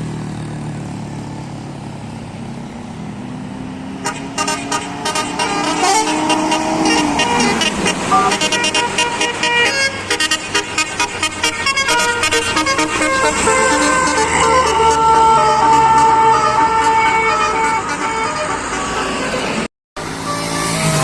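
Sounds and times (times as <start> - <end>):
diesel bus engine: 0.0 - 21.0
multi-tone bus horn melody: 4.0 - 21.0.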